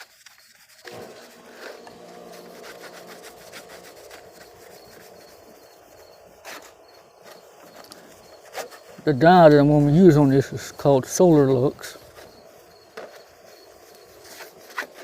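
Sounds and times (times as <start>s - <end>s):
sandpaper on sheet metal: 0.0s - 15.0s.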